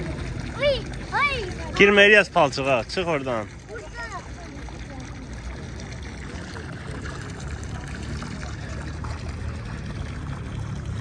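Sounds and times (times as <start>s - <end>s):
water spurting and trickling: 0.0s - 11.0s.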